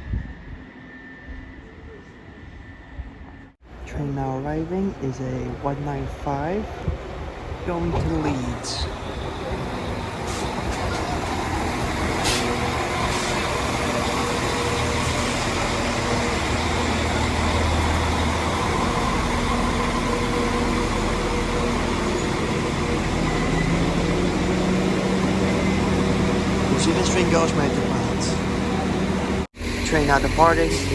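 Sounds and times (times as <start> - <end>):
diesel train engine rumbling: 0.0 - 30.9.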